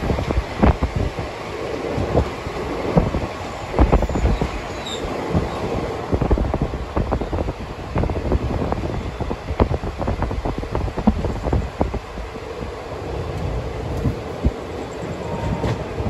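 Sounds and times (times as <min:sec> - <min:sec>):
train rumble: 0:00.0 - 0:16.0
wind buffeting microphone: 0:00.0 - 0:16.0.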